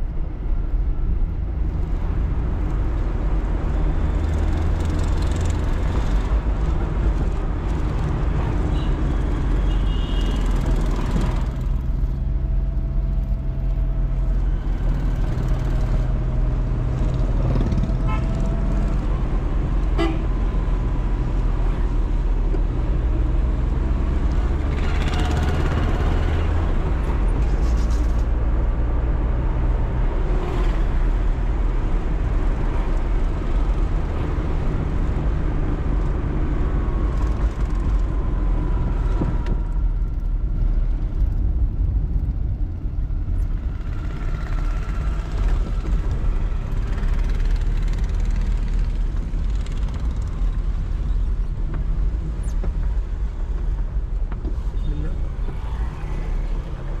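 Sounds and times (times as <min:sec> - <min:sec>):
road rumble and tyre noise: 0:00.0 - 0:57.0.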